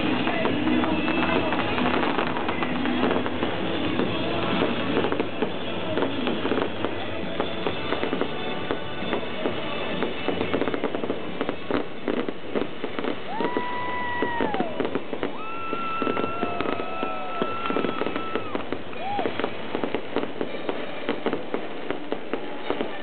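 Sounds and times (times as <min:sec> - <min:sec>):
fireworks bangs and crackles: 0:00.0 - 0:23.0
whistling fireworks: 0:00.0 - 0:23.0.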